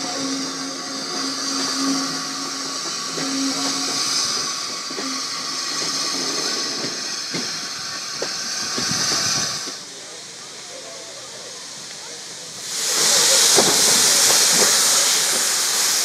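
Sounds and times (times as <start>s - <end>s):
train wheels clicking over rail joints: 0.0s - 9.9s, 11.9s - 16.0s
steam hissing: 0.0s - 16.0s
steam locomotive running past: 0.0s - 16.0s.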